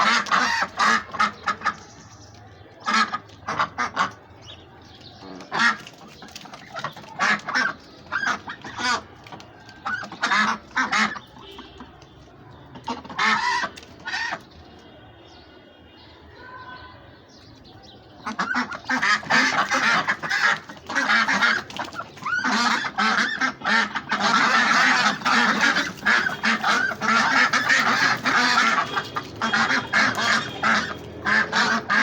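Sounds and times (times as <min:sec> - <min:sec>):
flock of waterfowl calling: 0:00.0 - 0:11.9, 0:12.7 - 0:14.8, 0:18.2 - 0:32.0.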